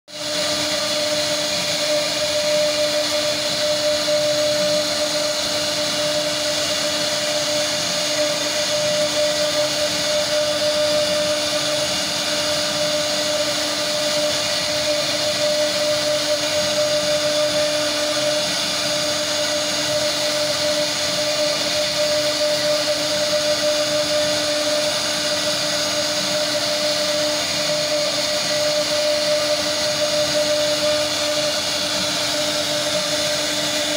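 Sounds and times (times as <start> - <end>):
hiss of bit cutting wood: 0.1 - 33.9
router spindle whine: 0.1 - 33.9.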